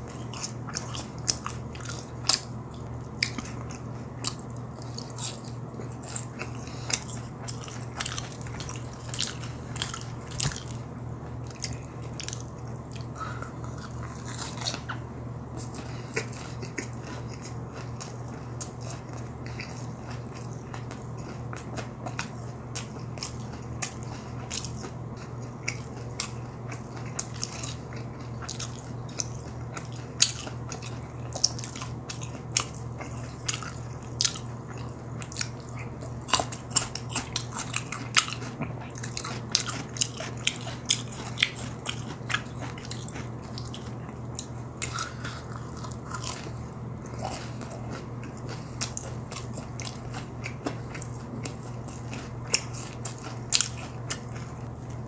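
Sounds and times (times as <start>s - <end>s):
chewing crunchy food: 0.0s - 55.0s
steady low hum: 0.0s - 55.0s.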